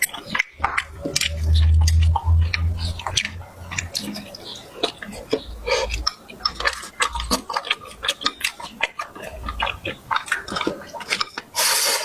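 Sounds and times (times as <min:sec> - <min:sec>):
person chewing with mouth open: 0:00.0 - 0:12.0.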